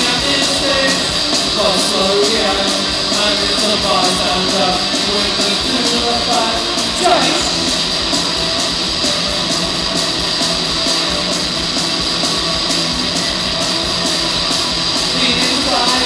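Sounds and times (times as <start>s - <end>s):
bass guitar: 0.0s - 16.0s
drums: 0.0s - 16.0s
electric guitar: 0.0s - 16.0s.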